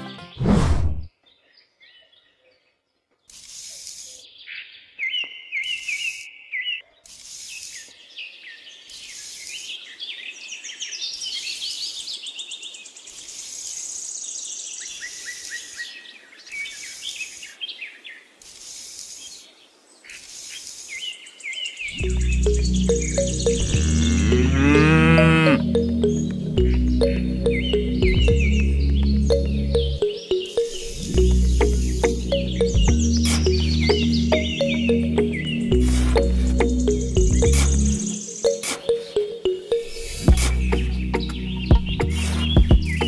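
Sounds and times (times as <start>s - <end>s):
small birds chirping: 1.1s - 43.0s.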